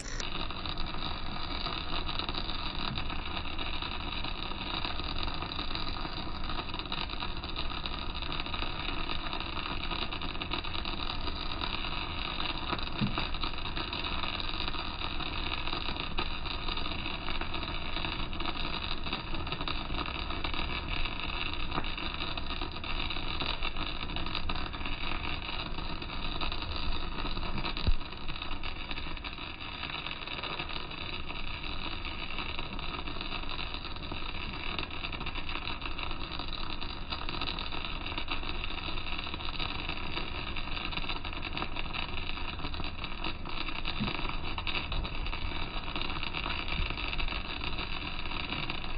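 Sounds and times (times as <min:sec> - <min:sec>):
welding arc crackling hiss: 0:00.0 - 0:48.9.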